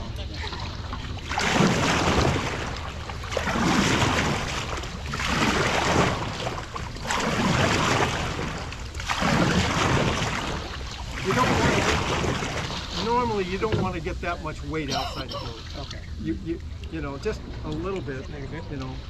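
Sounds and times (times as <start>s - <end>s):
paddle splashing water: 0.0s - 19.0s.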